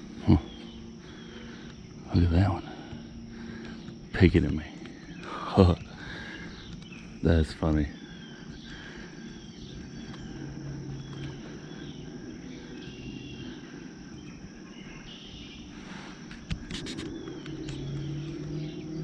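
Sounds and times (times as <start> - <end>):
high insect trill: 0.0 - 19.0
low hum: 0.0 - 19.0.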